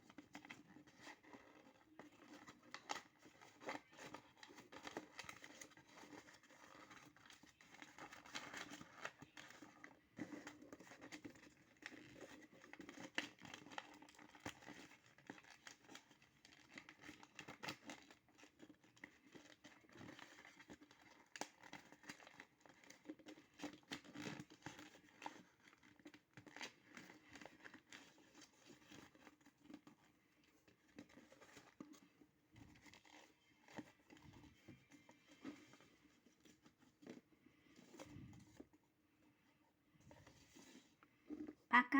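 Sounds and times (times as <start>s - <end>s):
paper rustling and crinkling: 0.0s - 39.3s, 39.9s - 41.6s
small clicks and scrapes: 0.0s - 41.7s.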